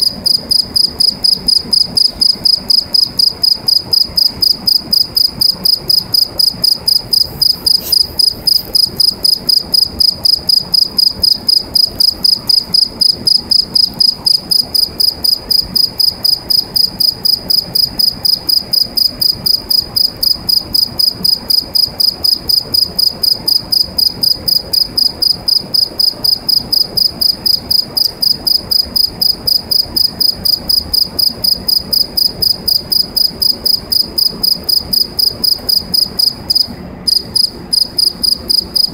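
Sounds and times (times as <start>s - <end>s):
cricket chirping in metal pipe: 0.0s - 38.9s.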